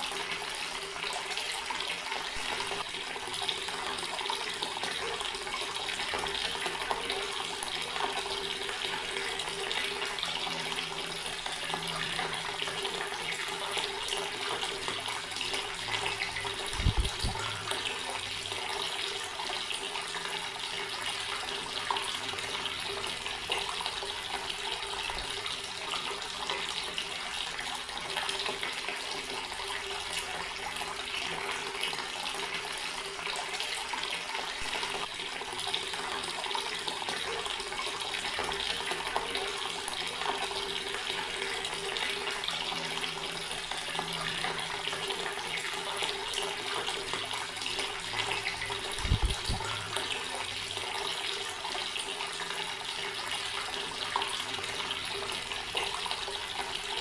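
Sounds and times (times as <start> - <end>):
tap water running and splashing: 0.0 - 57.0.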